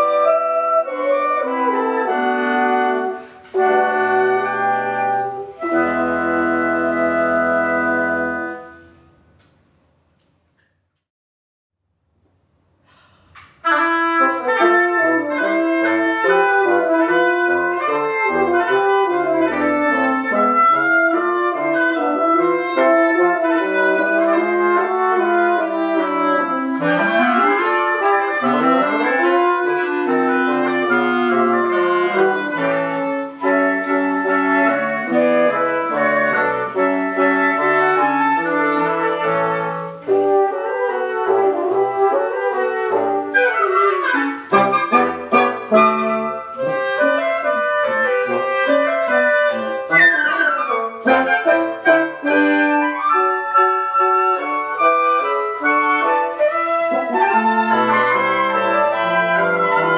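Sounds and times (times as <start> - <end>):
woodwind quintet playing: 0.0 - 9.3, 13.6 - 59.9.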